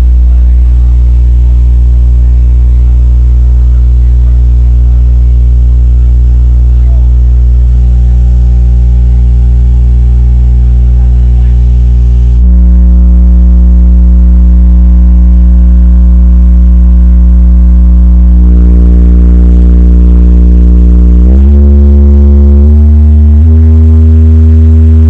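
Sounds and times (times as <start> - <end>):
subwoofer low test tones: 0.0 - 25.0.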